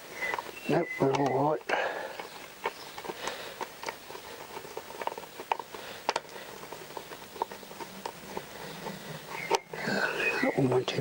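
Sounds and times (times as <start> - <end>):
small parts clicking and tapping: 0.0 - 11.0.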